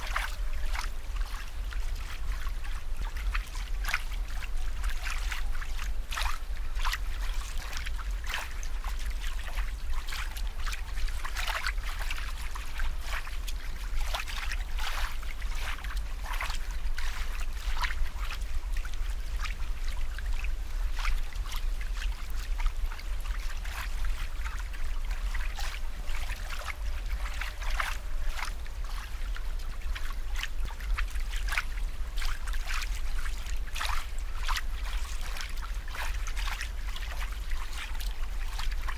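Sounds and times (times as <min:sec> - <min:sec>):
aquarium water trickling: 0:00.0 - 0:38.9
steady low hum: 0:00.0 - 0:38.9.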